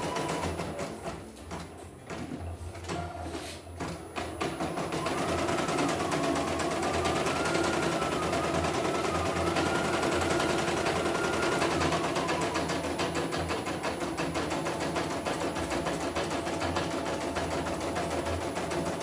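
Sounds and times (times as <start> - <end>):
embroidery machine stitching: 0.0 - 19.0.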